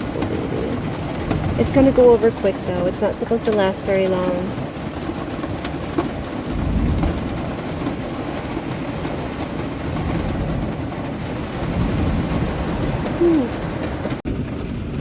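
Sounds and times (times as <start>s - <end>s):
rain on vehicle roof: 0.0s - 15.0s
rolling thunder: 0.0s - 15.0s.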